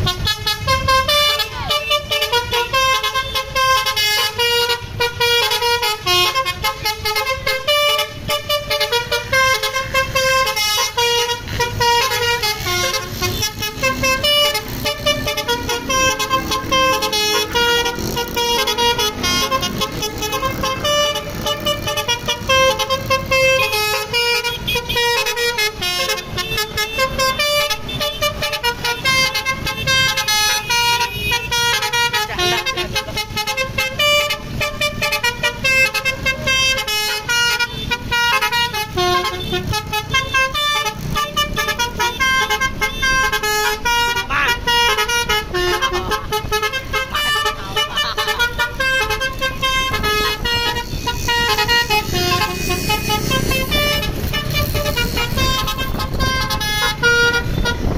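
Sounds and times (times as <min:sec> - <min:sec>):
bus engine running: 0:00.0 - 0:57.9
musical bus horn melody: 0:00.0 - 0:57.9.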